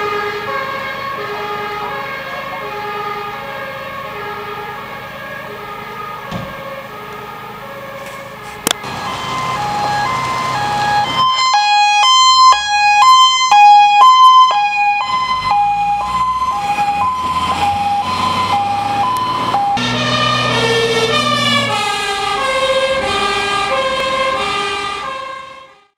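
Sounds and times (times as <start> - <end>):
truck engine: 0.0 - 25.9
two-tone siren: 0.0 - 25.9.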